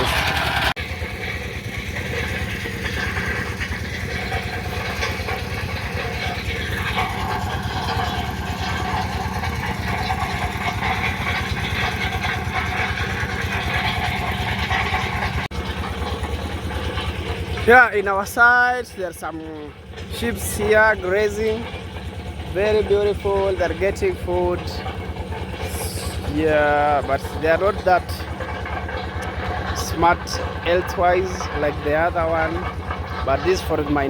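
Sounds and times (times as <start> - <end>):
processing machine droning: 0.0 - 34.0.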